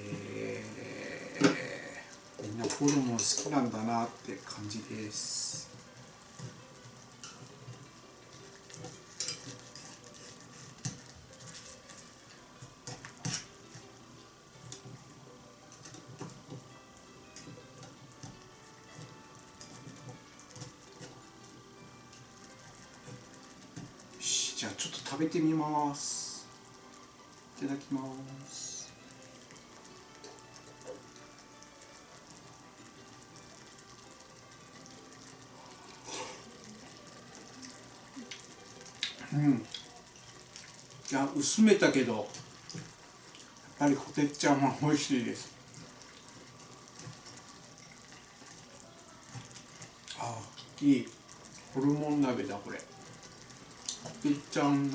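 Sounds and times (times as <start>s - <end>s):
stew bubbling and sputtering in a pot: 0.0s - 54.9s.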